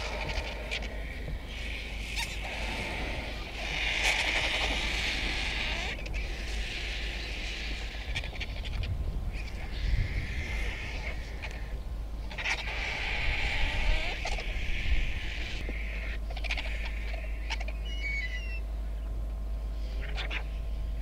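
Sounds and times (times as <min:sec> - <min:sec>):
vultures hissing and rasping: 0:00.0 - 0:18.6, 0:19.6 - 0:20.8
steady low rumble: 0:00.0 - 0:21.0.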